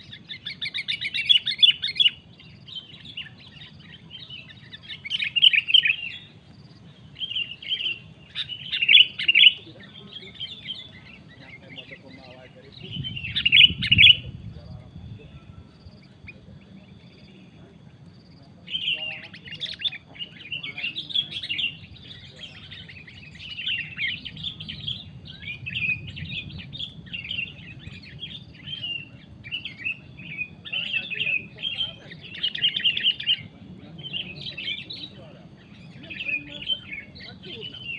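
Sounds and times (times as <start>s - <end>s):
birds chattering chirps: 0.0s - 37.9s.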